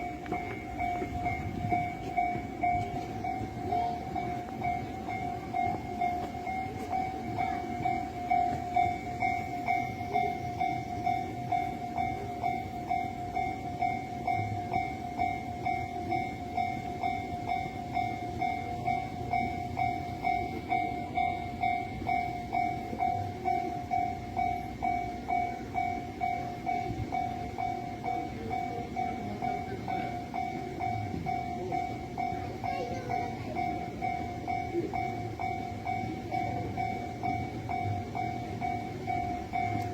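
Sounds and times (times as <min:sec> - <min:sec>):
level crossing bell dinging: 0:00.0 - 0:39.9.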